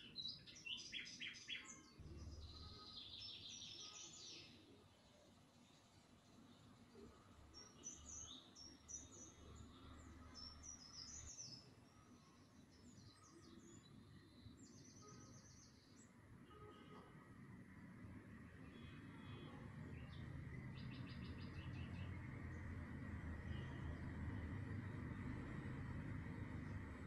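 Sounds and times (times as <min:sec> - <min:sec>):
small birds chirping: 0:00.0 - 0:17.1, 0:17.9 - 0:27.0.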